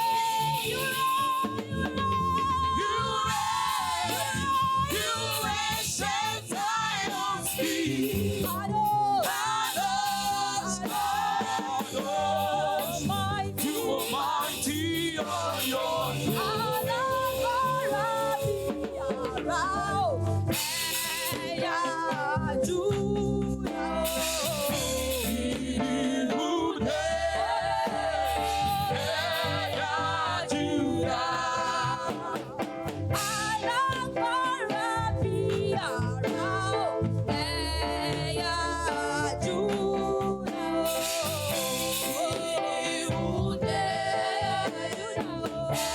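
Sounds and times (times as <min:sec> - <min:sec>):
drums keeping steady beat: 0:00.0 - 0:37.5, 0:38.2 - 0:45.9
choir singing gospel song: 0:00.0 - 0:45.9
live band: 0:00.0 - 0:45.9.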